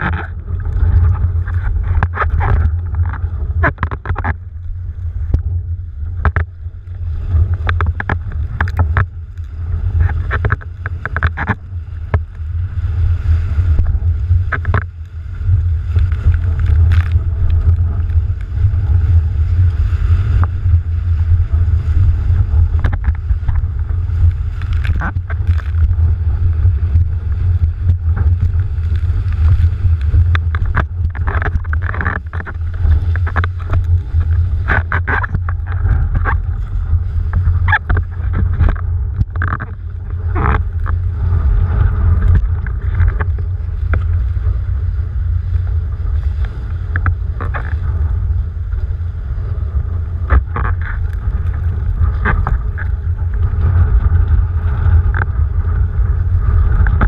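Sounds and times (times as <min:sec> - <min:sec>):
water splashes and spray: 0:00.0 - 0:55.8
wind buffeting microphone: 0:00.0 - 0:57.0.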